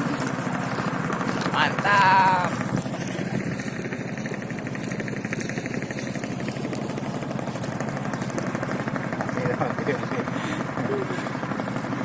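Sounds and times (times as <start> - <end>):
boat engine chugging: 0.0 - 12.0.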